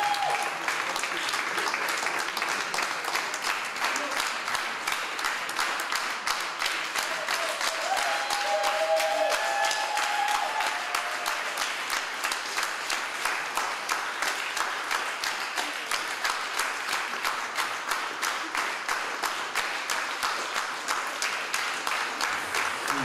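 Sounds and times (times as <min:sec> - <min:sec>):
audience clapping in unison: 0:00.0 - 0:23.0.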